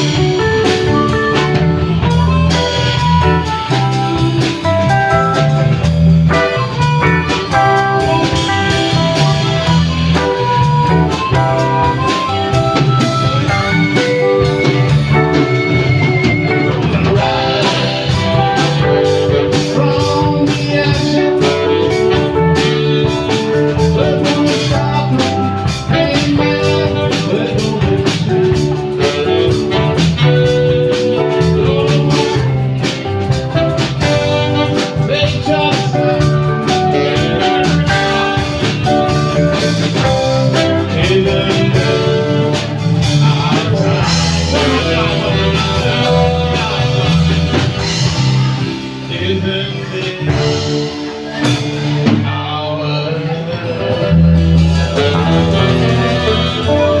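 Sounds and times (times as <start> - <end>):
blues-rock band playing: 0.0 - 57.0
electric guitar lines: 0.0 - 57.0.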